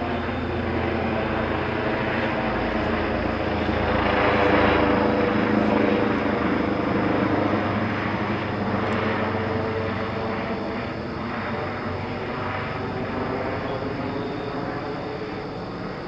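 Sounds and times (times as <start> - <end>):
helicopter flying over: 0.0 - 16.0.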